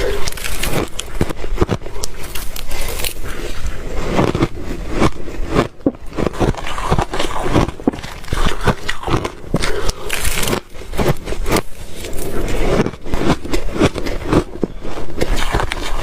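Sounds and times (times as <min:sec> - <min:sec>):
ice being bitten and chewed: 0:00.0 - 0:16.0.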